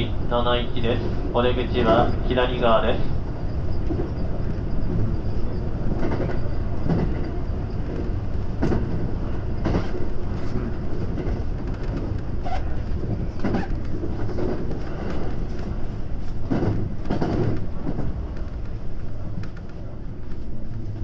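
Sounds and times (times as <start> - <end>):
train rolling rumble: 0.0 - 21.0
wheels clacking over rail joints: 3.6 - 21.0.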